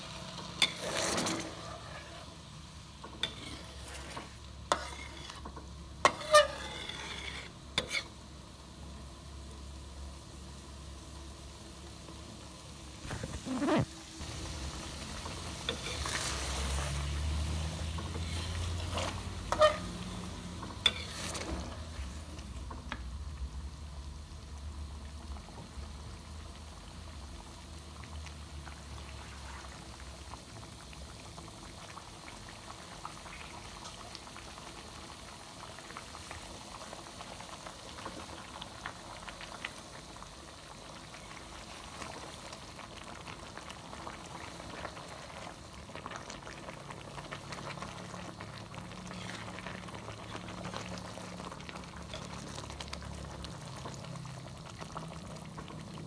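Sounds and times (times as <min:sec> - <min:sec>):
curry bubbling in a pan: 0:00.0 - 0:56.0.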